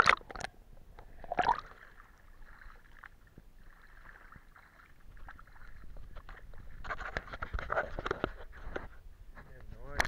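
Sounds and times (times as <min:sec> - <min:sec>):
underwater gurgling: 0:00.0 - 0:08.1
water splashing and sloshing: 0:00.0 - 0:09.3.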